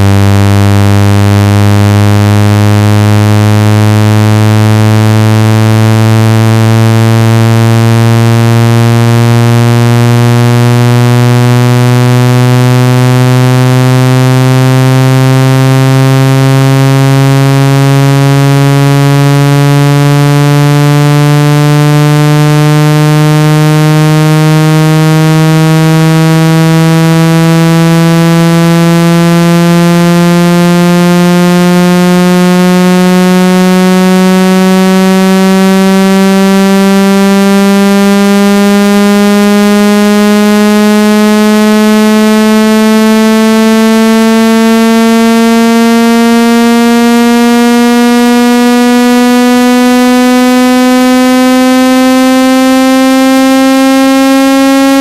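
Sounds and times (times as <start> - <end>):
buzzy synthesized rising tone: 0.0 - 55.0.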